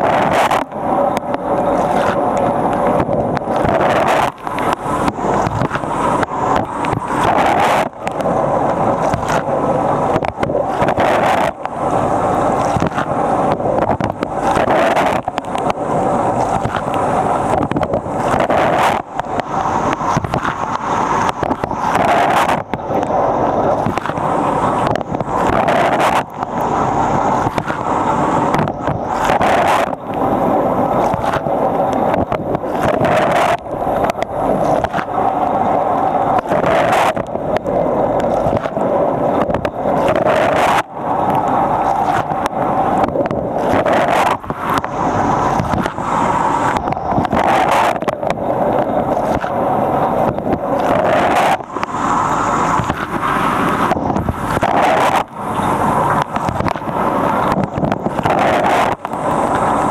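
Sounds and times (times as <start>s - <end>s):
dishwasher wash pump running: 0.0s - 59.9s.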